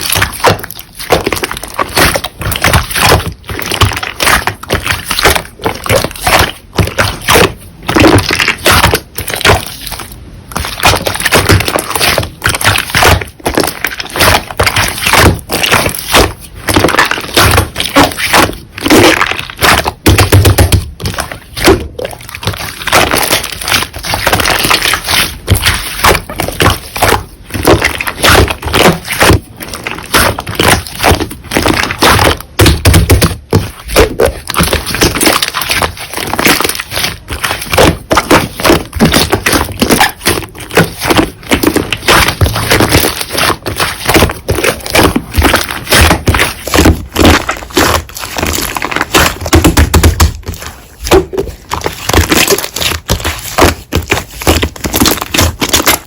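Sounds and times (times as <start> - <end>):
slime crackling and clicking: 0.0 - 56.0.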